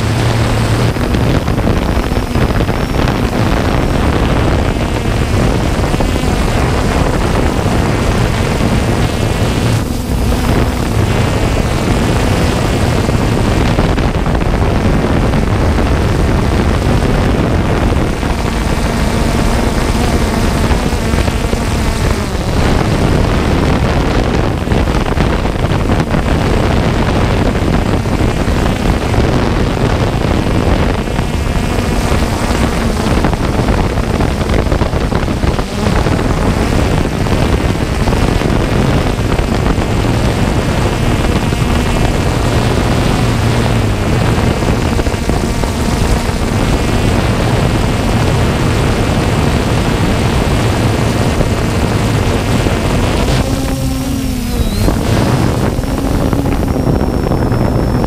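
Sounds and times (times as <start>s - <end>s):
drone propellers buzzing: 0.0s - 58.0s
wind rush: 0.0s - 58.0s.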